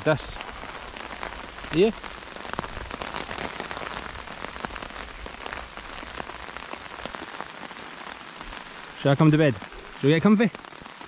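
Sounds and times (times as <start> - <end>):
rain and hail on tarpaulin: 0.0 - 11.0.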